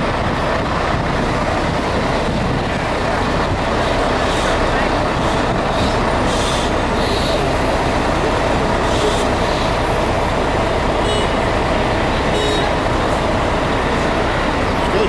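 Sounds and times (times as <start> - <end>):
bus engines idling: 0.0 - 15.0
traffic: 0.0 - 15.0.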